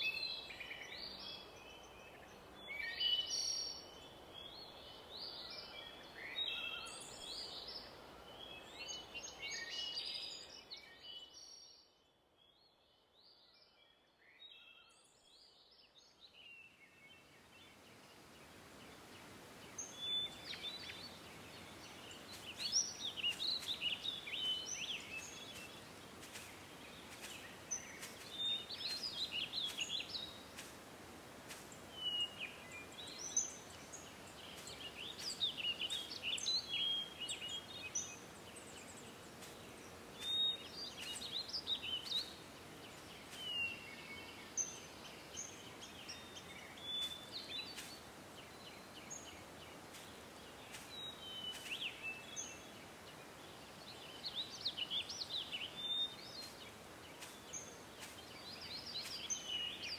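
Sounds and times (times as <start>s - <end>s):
hiss of outdoor ambience: 0.0s - 11.7s, 15.2s - 59.9s
songbirds singing: 0.0s - 59.9s.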